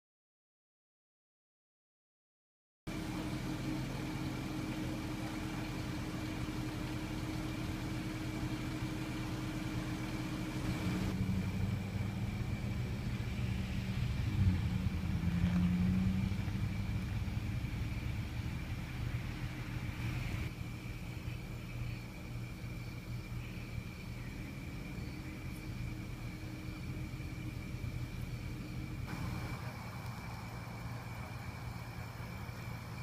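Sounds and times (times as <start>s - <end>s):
faint high whine: 2.9s - 33.0s
vehicle engine idling hum: 2.9s - 33.0s.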